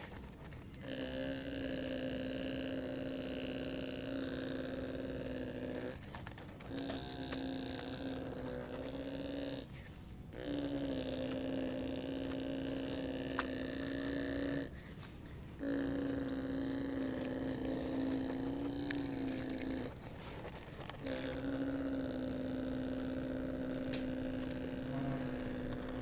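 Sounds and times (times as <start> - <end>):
model motor buzzing: 0.8 - 14.9, 15.6 - 20.1, 20.8 - 26.0.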